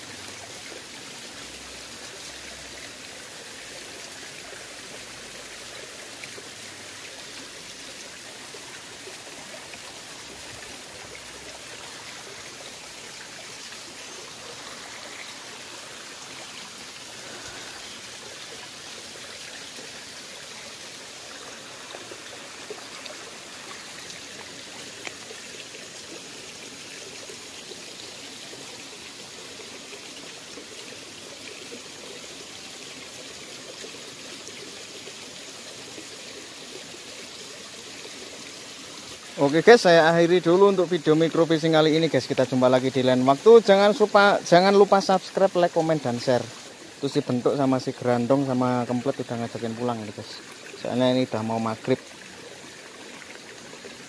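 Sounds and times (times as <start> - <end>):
stream water trickling over stones: 0.0 - 54.0.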